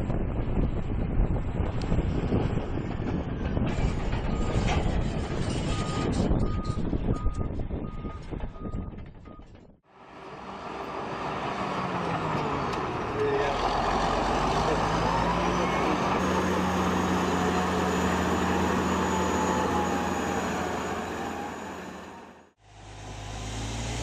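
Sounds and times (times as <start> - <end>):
heavy machine engine running: 0.3 - 24.0.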